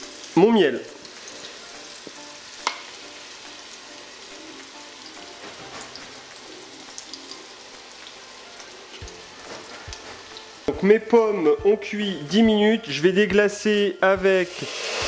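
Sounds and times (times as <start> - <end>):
apples sizzling in butter: 0.0 - 11.5, 13.8 - 15.0.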